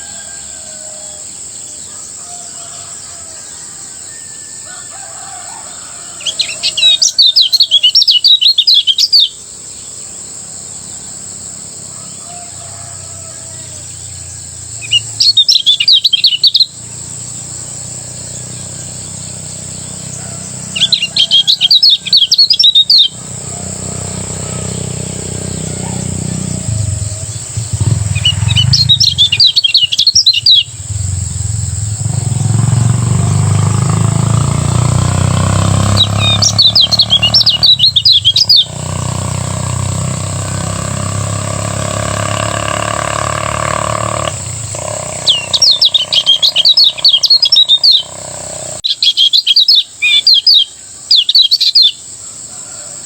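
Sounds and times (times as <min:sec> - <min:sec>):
bird twittering song: 0:00.0 - 0:52.9.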